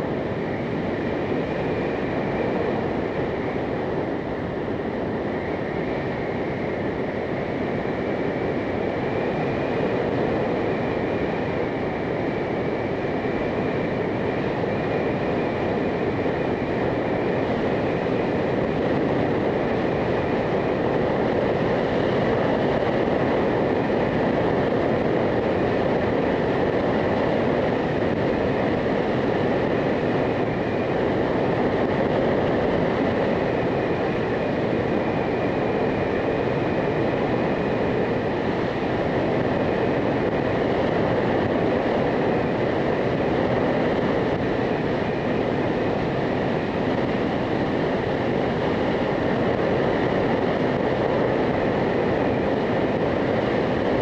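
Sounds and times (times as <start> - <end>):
faint high steady whine: 0.0 - 54.0
motorcycle engine and wind: 0.0 - 54.0.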